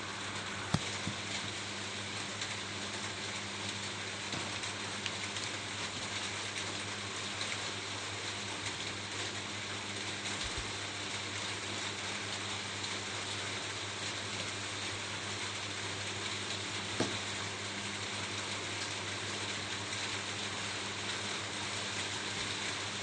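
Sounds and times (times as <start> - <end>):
rain falling on a roof: 0.0 - 23.0.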